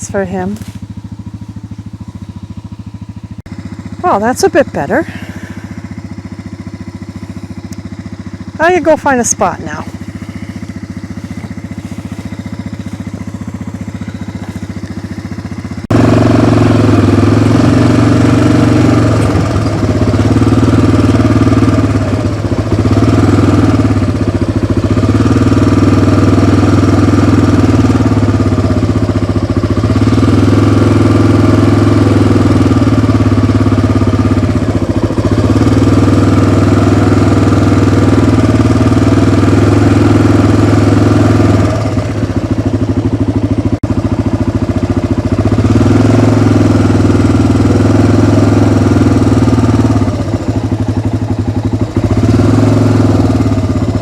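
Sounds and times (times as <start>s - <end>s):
off-road vehicle engine: 0.0s - 54.0s.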